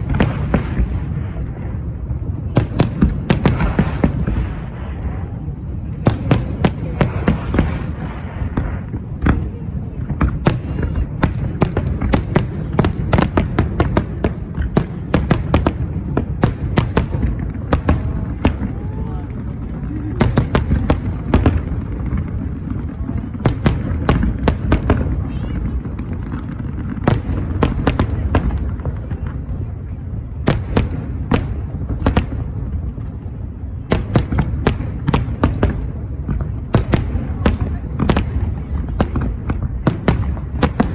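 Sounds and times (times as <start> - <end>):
continuous low rumble: 0.0 - 40.9
fireworks bangs: 0.0 - 40.9.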